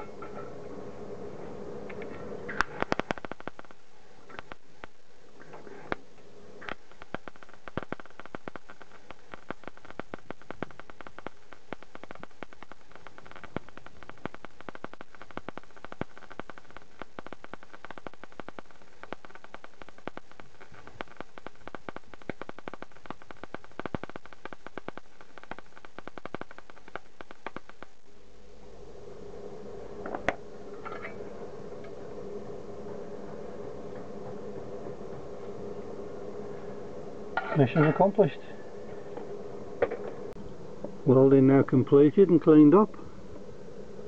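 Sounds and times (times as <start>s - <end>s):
welding arc crackling: 0.0s - 28.6s, 29.5s - 44.0s.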